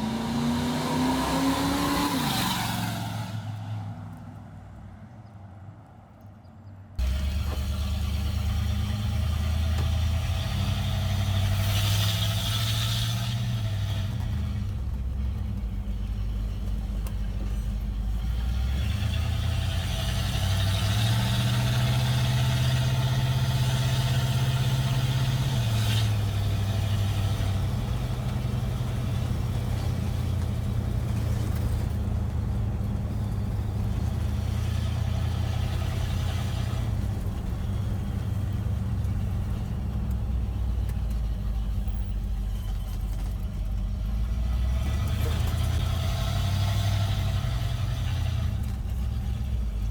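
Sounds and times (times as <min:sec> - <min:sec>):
engine deep exhaust note: 0:07.0 - 0:49.9.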